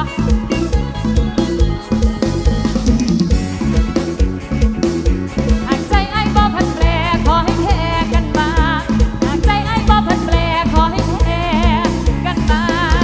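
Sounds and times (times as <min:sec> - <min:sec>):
drum beat: 0:00.0 - 0:13.0
melody with heavy vibrato: 0:00.0 - 0:13.0.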